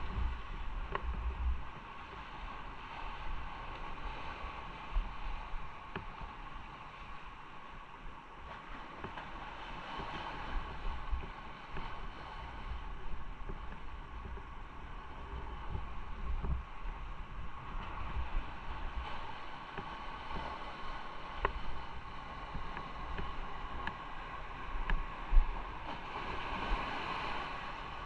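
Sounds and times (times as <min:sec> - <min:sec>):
wind buffeting microphone: 0:00.0 - 0:06.5, 0:08.5 - 0:28.0.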